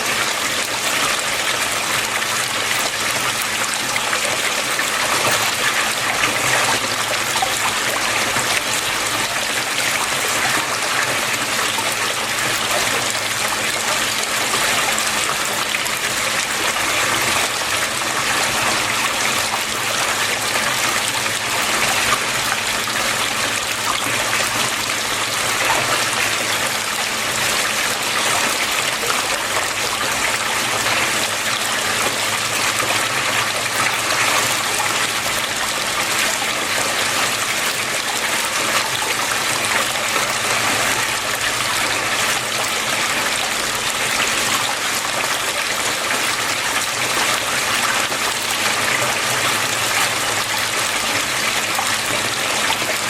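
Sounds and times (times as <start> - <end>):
water rushing and trickling: 0.0 - 53.0.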